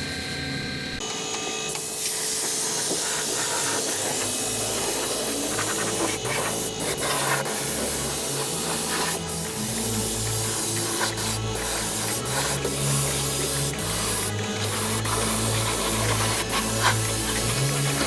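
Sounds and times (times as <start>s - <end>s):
compressed air spraying: 1.8s - 18.0s.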